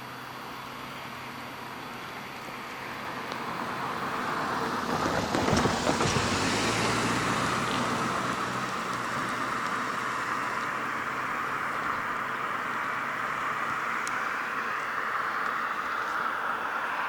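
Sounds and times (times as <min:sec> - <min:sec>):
low engine hum: 0:00.0 - 0:17.0
road vehicle passing by: 0:00.0 - 0:17.0
traffic noise: 0:00.0 - 0:17.0.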